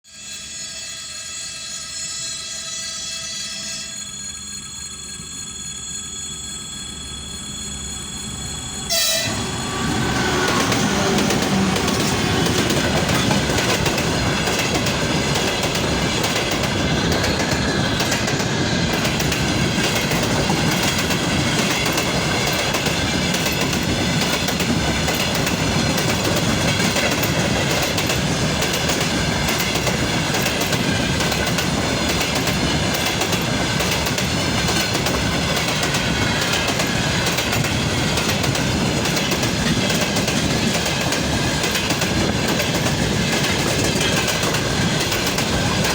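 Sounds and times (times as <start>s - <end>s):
high wheel squeal: 0.1s - 39.6s
train wheels clacking over rails: 8.9s - 45.9s.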